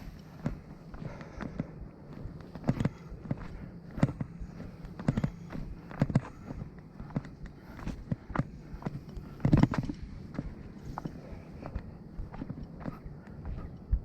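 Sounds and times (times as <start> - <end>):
footsteps on hillside trail: 0.0 - 14.0.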